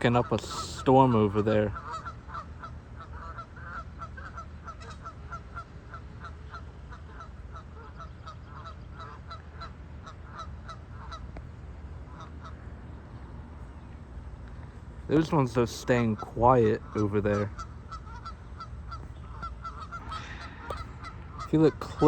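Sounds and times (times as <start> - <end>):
geese honking: 0.0 - 13.4, 15.0 - 22.0
low steady background rumble: 0.0 - 22.0.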